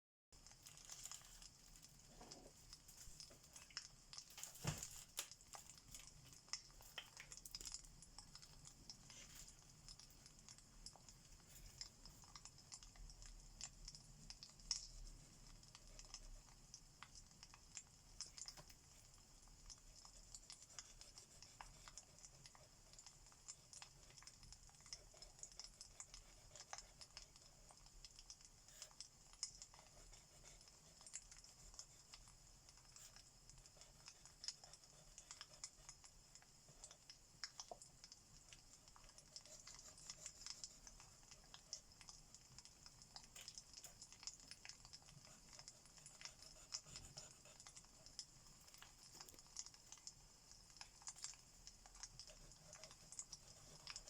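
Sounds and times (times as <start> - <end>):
wood fire crackling: 0.4 - 54.0.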